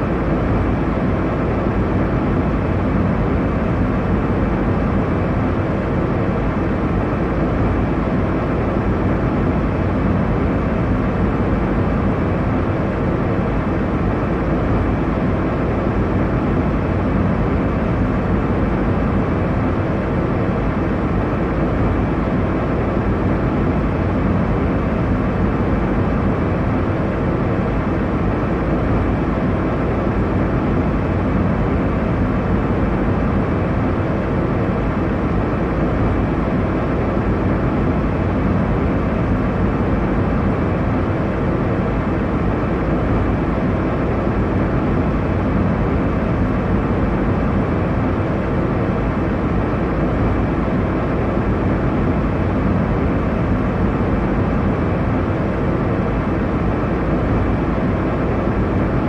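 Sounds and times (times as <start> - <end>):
airliner engines and airflow drone: 0.0 - 59.0.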